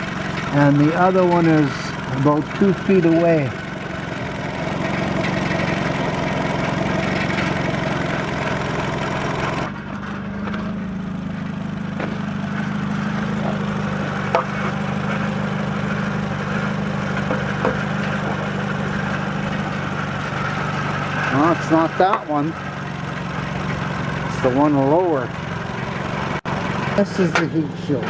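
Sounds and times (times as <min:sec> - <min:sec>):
car engine idling: 0:00.0 - 0:28.0
exhaust heat shield rattling: 0:00.0 - 0:28.0.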